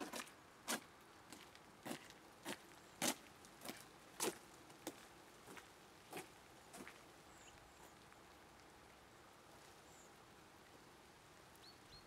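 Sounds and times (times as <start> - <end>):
footsteps on wet path: 0.0 - 9.9
faint rain hiss: 0.0 - 12.0.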